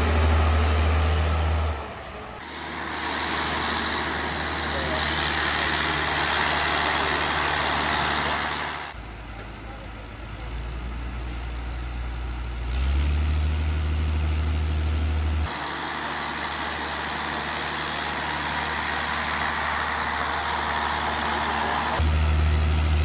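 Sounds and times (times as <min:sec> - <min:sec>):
heavy truck engine drone: 0:00.0 - 0:23.0
truck hiss and rushing noise: 0:00.0 - 0:23.0.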